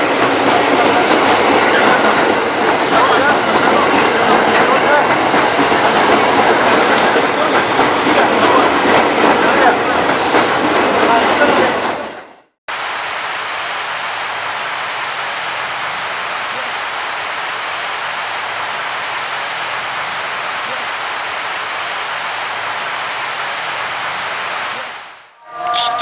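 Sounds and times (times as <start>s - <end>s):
heavy rain: 0.0s - 11.9s, 12.7s - 25.4s.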